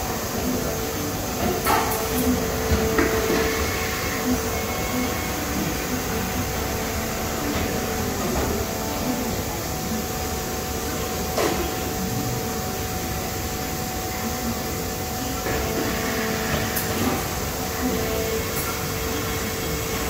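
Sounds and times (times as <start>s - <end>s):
machine hum with held tone: 0.0s - 20.0s.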